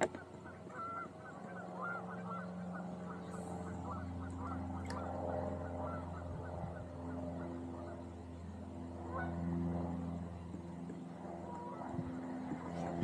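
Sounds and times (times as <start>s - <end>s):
geese honking: 0.0s - 10.3s, 11.3s - 13.0s
low hum: 0.0s - 13.0s.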